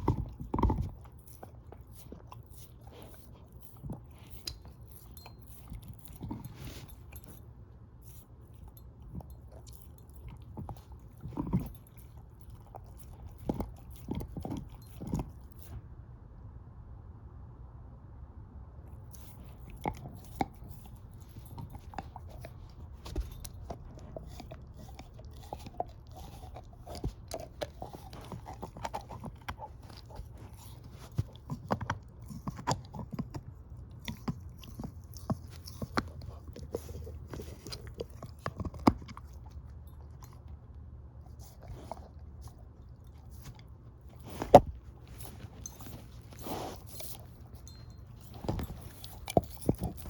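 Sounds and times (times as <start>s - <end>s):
dog chewing a bone: 0.0s - 15.8s, 19.0s - 50.0s.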